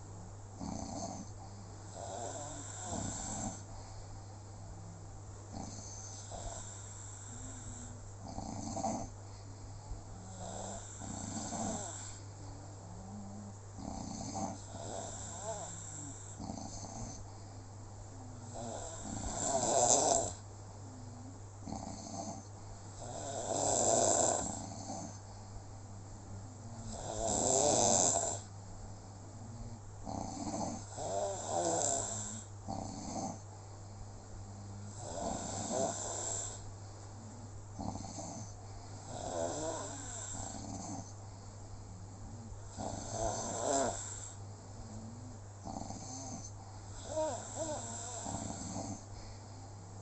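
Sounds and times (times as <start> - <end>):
snoring: 0.6 - 3.7, 5.5 - 9.2, 10.1 - 17.3, 18.2 - 25.2, 26.6 - 28.5, 29.4 - 33.4, 34.6 - 41.2, 42.3 - 49.4
soft breaths: 1.2 - 21.6, 22.2 - 50.0.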